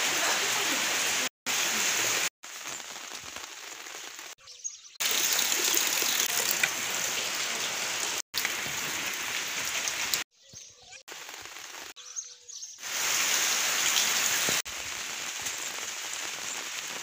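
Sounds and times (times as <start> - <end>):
heavy rain on tree leaves: 0.0 - 4.4, 5.0 - 10.3, 11.1 - 12.0, 12.8 - 17.0.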